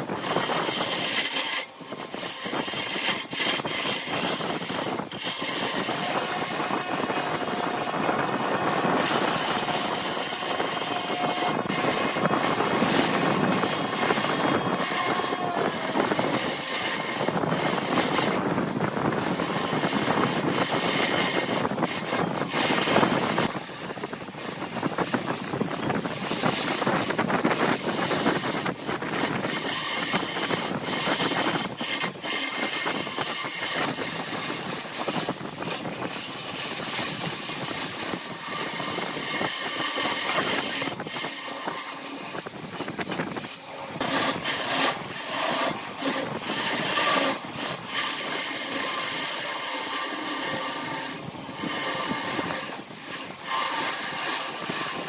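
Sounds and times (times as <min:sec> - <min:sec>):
wood lathe scraping: 0:00.0 - 0:55.0.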